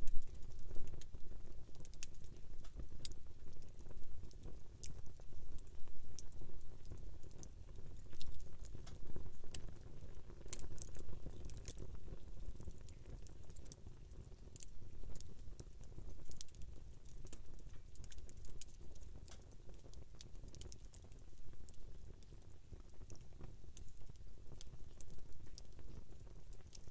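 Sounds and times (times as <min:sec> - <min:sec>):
campfire crackling and popping: 0:00.0 - 0:26.9.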